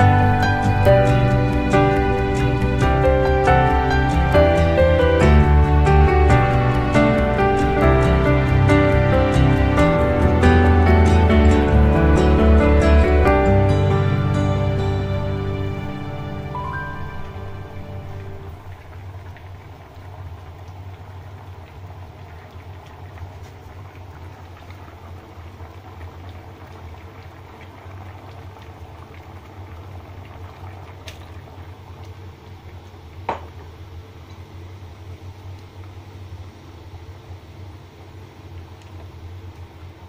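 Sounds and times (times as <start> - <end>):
water boiling in pan: 0.0 - 40.0.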